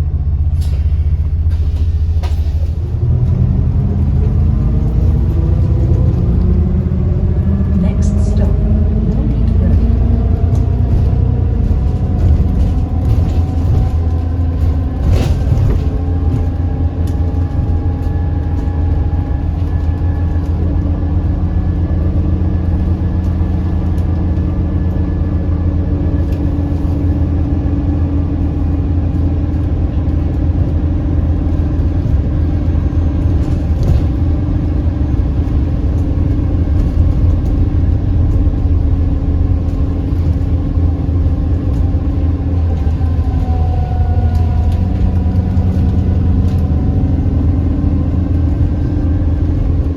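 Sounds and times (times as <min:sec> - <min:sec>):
axle and turbo whine: 0:00.0 - 0:49.9
bus engine rumbling: 0:00.0 - 0:49.9.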